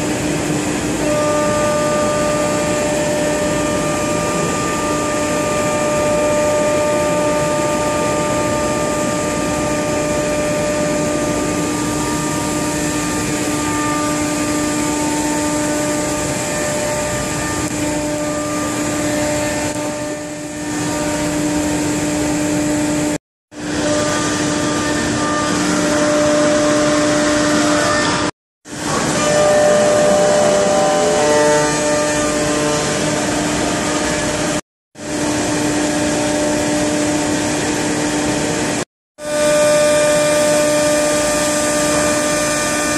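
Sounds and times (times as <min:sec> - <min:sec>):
router spindle whine: 0:00.0 - 0:38.3, 0:39.2 - 0:42.9.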